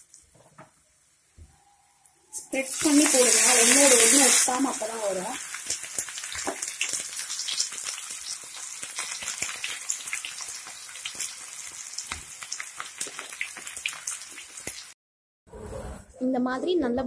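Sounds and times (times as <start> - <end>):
deep frying sizzle with pops: 0.0 - 1.5, 2.5 - 15.0.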